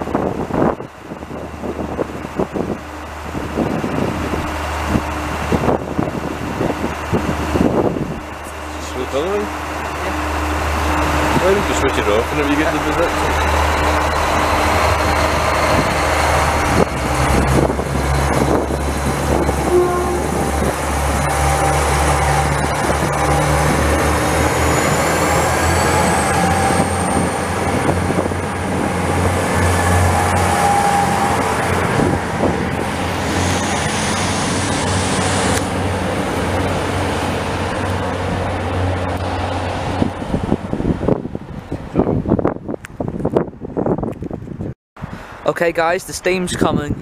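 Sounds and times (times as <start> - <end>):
diesel train engine drone: 0.0 - 46.2
rail rumble: 0.0 - 46.7.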